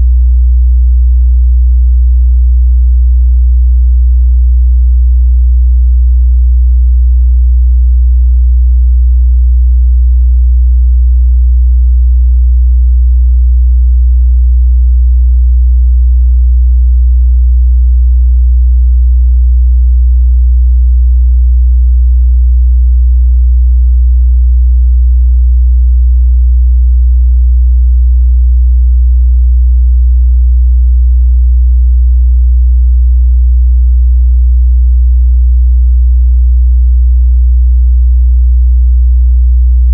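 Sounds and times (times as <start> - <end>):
low sine-wave test tone: 0.0 - 39.0, 39.7 - 39.9.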